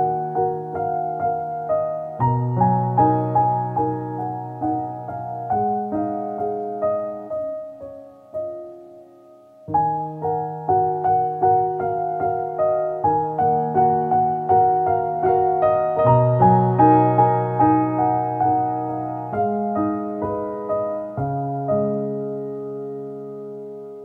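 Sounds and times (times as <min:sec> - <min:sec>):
solo piano music: 0:00.0 - 0:24.0.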